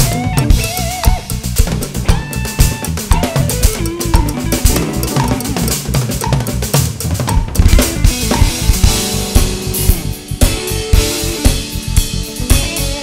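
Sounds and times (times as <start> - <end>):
cymbals washing: 0.0 - 13.0
snare tom and bass drum strokes: 0.0 - 13.0.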